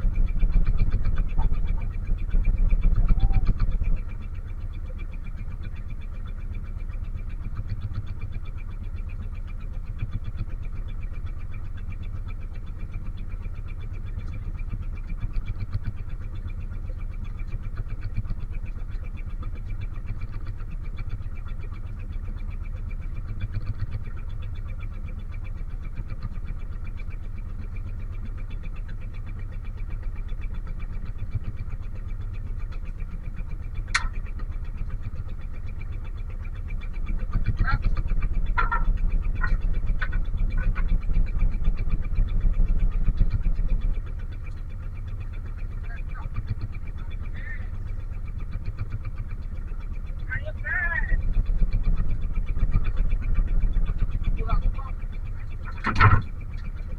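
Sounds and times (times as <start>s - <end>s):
boat engine running: 0.0s - 56.9s.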